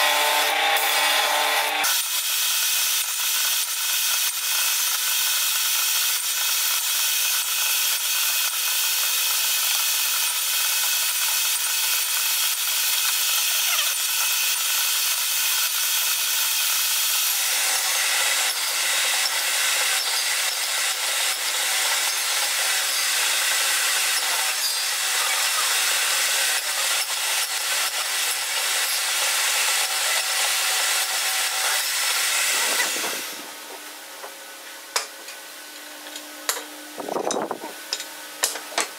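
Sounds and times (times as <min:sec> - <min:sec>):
table saw cutting wood: 0:00.0 - 0:35.1.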